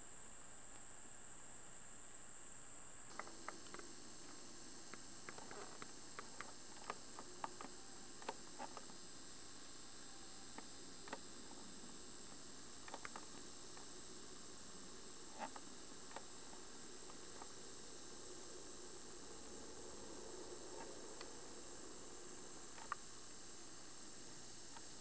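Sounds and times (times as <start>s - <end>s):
camcorder hiss and whine: 0.0s - 25.0s.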